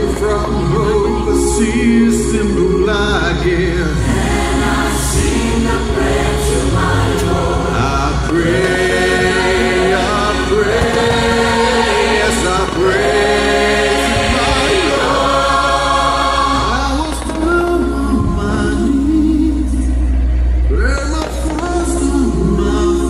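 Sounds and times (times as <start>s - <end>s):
choir singing held notes: 0.0s - 23.0s.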